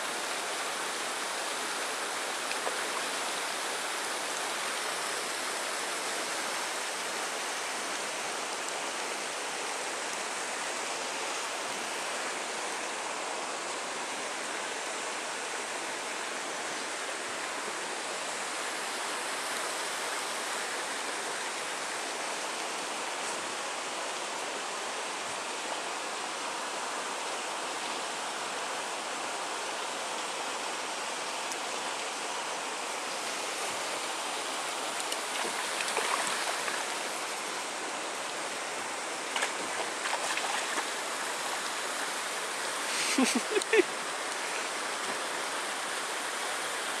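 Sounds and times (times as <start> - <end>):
flowing water rushing: 0.0 - 47.0.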